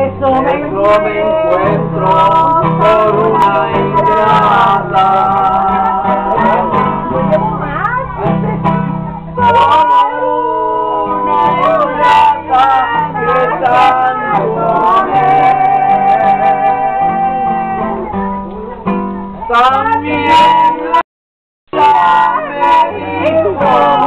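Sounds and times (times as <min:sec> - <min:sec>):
acoustic guitar strummed: 0:00.0 - 0:21.0, 0:21.7 - 0:24.0.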